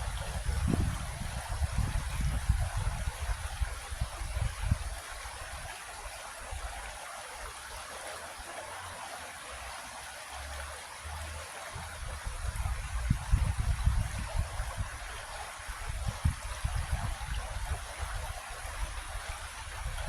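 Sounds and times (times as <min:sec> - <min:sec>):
creek water rushing and trickling: 0:00.0 - 0:20.0.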